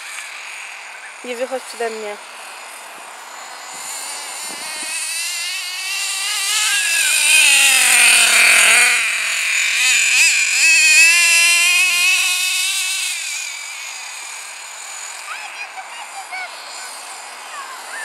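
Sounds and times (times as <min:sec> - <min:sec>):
nitro engine revving at high revs: 0:00.0 - 0:18.0.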